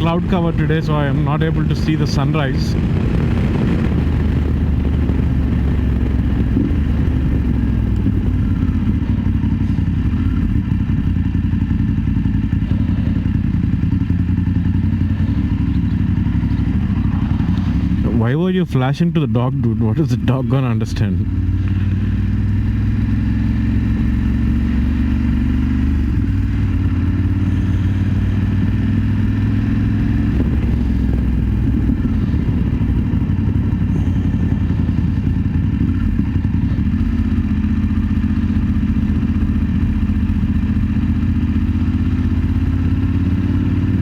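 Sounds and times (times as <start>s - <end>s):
motorcycle engine cruising: 0.0s - 44.0s.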